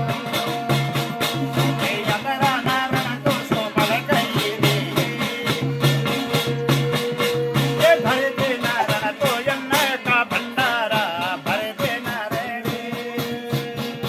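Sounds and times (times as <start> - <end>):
brass plate beaten: 0.0 - 14.0
hand drum beating: 0.0 - 14.0
men singing a chant: 0.0 - 14.0.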